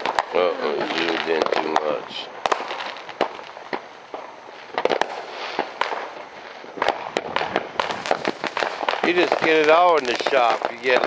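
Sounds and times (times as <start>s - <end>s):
distant fireworks crackle: 0.0s - 11.0s
fireworks bangs and cracks: 0.0s - 11.0s.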